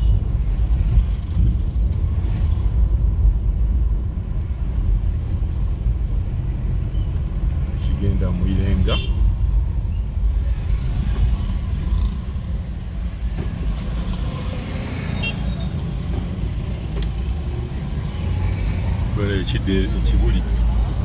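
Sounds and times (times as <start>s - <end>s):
cars and motorcycles passing close: 0.0s - 21.0s
road traffic rumble: 0.0s - 21.0s.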